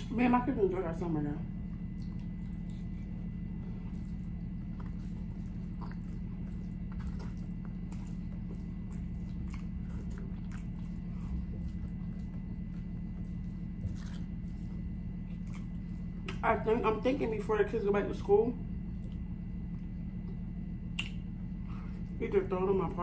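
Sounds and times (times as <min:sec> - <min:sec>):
steady low hum: 0:00.0 - 0:23.0
chewing and mouth sounds: 0:01.5 - 0:17.2, 0:18.7 - 0:22.2.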